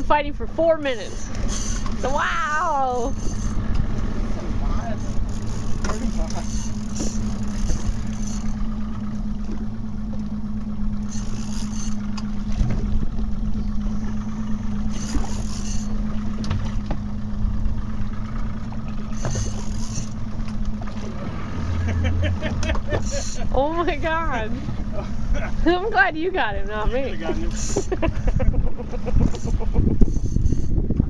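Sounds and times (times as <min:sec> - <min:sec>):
boat engine hum: 0:00.0 - 0:31.0
water noise: 0:00.0 - 0:31.0
wind: 0:00.0 - 0:31.0.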